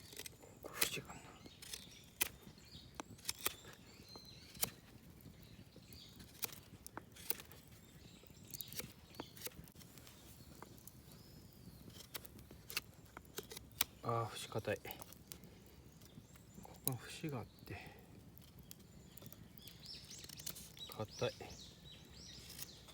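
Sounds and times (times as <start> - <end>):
knife carving wood: 0.0 - 14.2, 14.8 - 16.9, 18.3 - 22.9
sharp wood clicks and snaps: 0.0 - 22.9.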